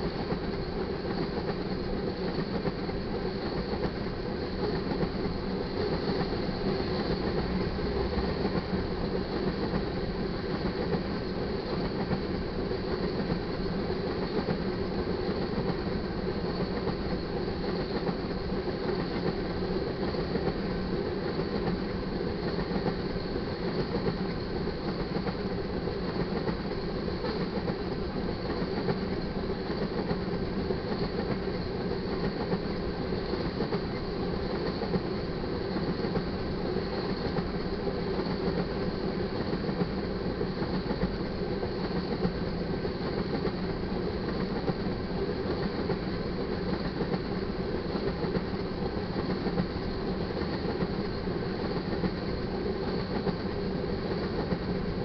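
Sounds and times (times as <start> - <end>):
train wheels running on rails: 0.0 - 55.0.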